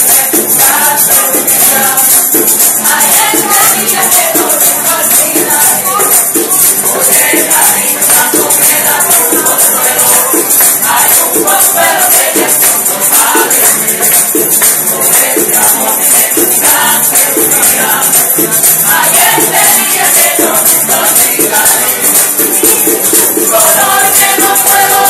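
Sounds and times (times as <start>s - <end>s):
group singing: 0.0s - 25.0s
shaken hand percussion: 0.0s - 25.0s.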